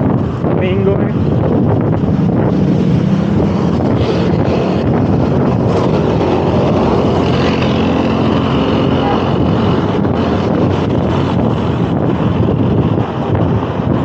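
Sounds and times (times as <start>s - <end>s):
motor traffic: 0.0s - 14.0s
wind buffeting microphone: 0.0s - 14.0s.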